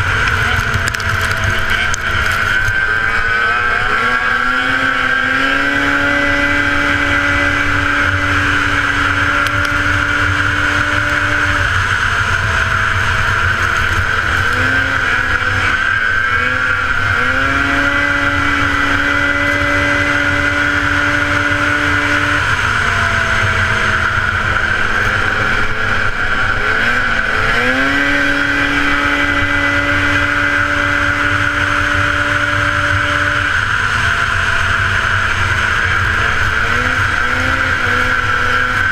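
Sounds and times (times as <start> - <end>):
high whine: 0.0 - 38.9
snowmobile engine revving: 0.0 - 38.9
wind rumble on microphone: 0.0 - 38.9.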